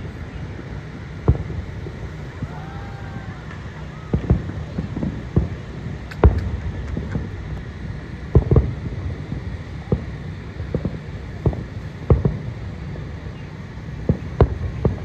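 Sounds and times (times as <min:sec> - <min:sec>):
firework shells booming: 0:00.0 - 0:15.0
low steady rumble: 0:00.0 - 0:15.0.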